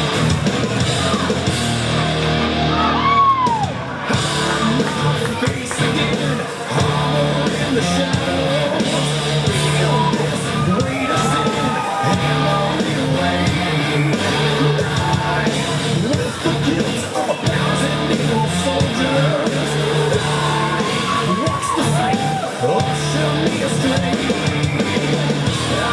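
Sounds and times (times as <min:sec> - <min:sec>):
heavy rock music: 0:00.0 - 0:25.9
person singing: 0:04.1 - 0:25.9.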